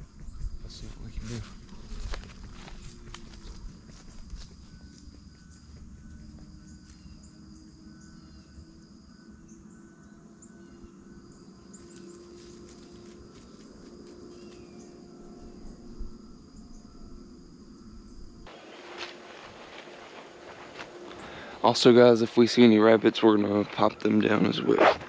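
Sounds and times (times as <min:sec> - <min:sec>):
insects and crickets trilling: 0:00.0 - 0:25.0
pulsing chirp: 0:00.0 - 0:25.0.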